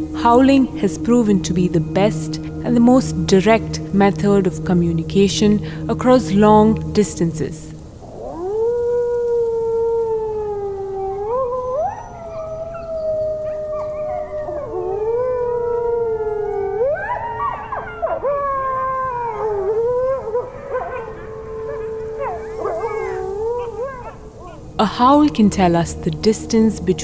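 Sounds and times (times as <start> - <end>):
wolves howling: 0.0 - 27.0.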